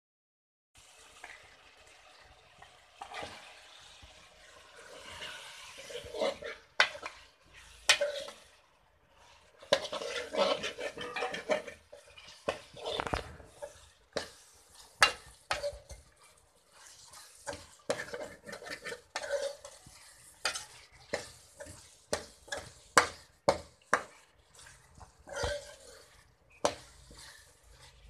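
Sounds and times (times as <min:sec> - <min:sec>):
chicken sizzling in a pan: 0:00.8 - 0:28.0
spatula scraping a pan: 0:03.0 - 0:28.0.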